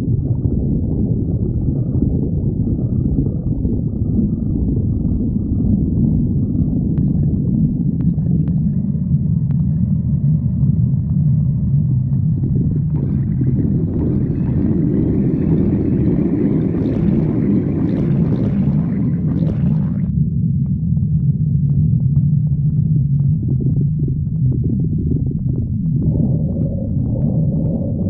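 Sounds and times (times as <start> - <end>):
stomach growling: 0.0 - 28.0.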